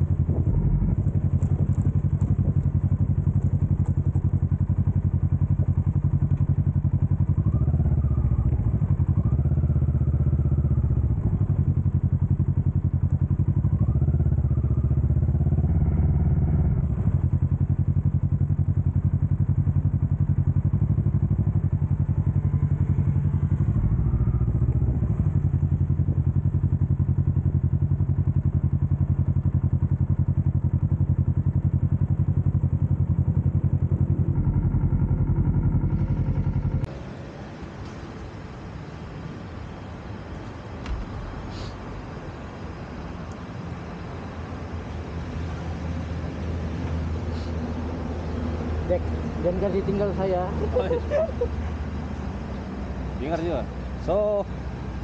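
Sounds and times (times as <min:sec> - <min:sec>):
motorcycle engine accelerating: 0:00.0 - 0:37.7, 0:38.6 - 0:55.0.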